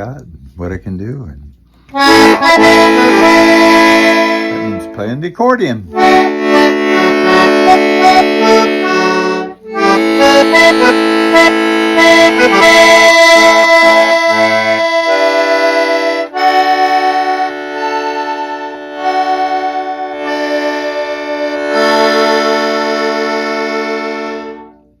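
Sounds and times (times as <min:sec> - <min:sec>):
accordion playing chords and melody: 0:01.9 - 0:25.0.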